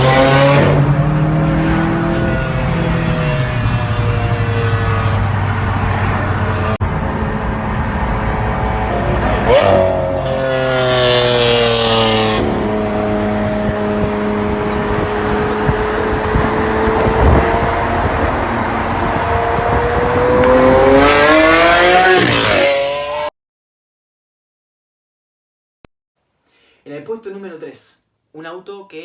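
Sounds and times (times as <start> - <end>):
sports car engine revving: 0.0 - 23.3.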